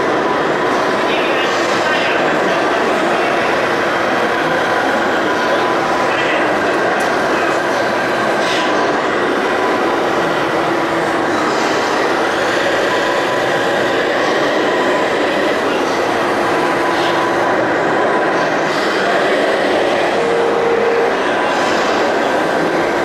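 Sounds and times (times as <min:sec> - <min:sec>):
model construction machines running: 0:00.0 - 0:23.0.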